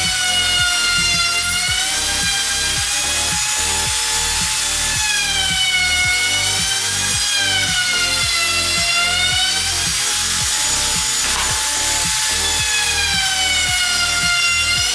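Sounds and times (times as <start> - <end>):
background music with a beat: 0.0 - 14.9
trim router whining cutting wood: 0.0 - 14.9.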